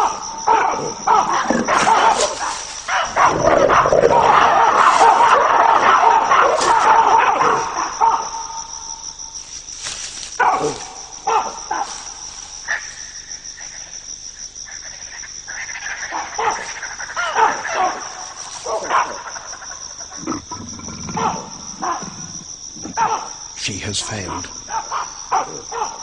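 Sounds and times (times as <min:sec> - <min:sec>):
baboons screaming and barking: 0:00.0 - 0:26.0
crickets trilling: 0:00.0 - 0:26.0.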